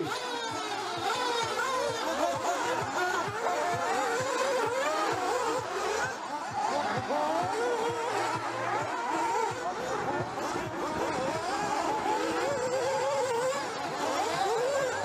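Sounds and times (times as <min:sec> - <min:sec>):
rc car engines revving: 0:00.0 - 0:15.0.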